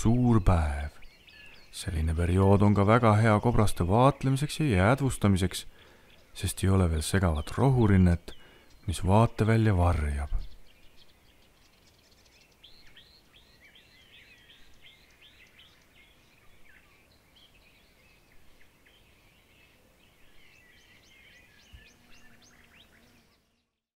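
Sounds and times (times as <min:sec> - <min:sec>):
faint birdsong chirps: 0:00.0 - 0:24.0.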